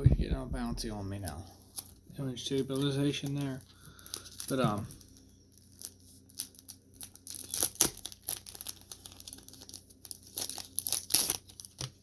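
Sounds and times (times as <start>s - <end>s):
packaging crinkling and tearing: 1.2s - 12.0s.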